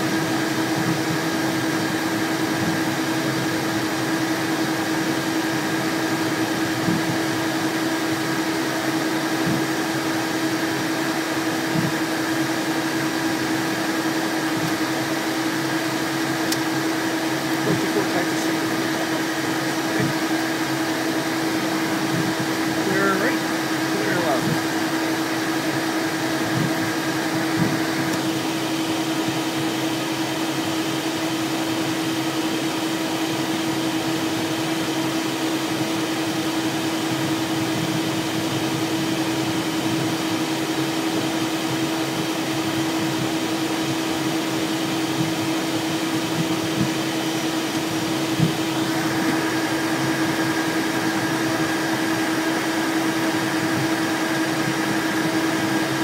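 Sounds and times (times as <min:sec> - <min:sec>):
cabin air hum: 0:00.0 - 0:56.0
high-pitched whine: 0:00.0 - 0:56.0
jet engines idling whir: 0:00.0 - 0:56.0.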